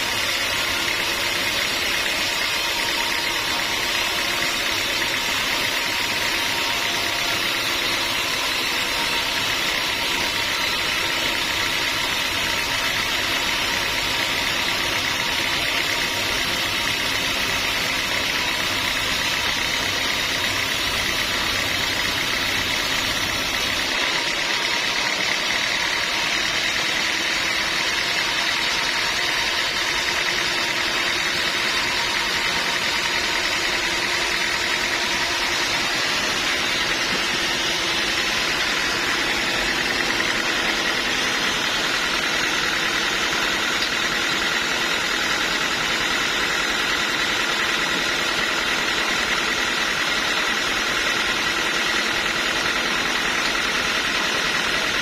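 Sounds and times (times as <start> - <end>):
high mechanical whine: 0.0 - 55.0
sawmill machinery drone: 0.0 - 55.0.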